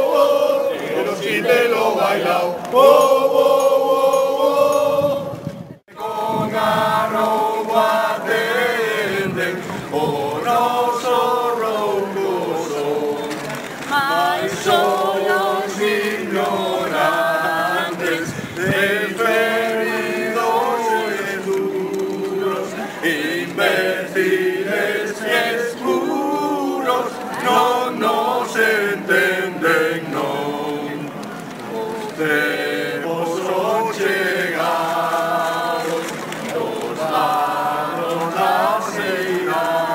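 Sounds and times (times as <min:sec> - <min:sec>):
group singing in unison: 0:00.0 - 0:39.9.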